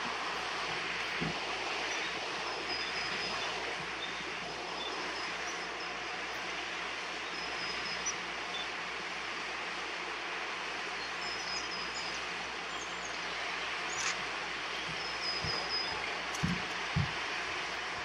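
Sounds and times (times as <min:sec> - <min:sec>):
steady outdoor rushing noise: 0:00.0 - 0:18.0.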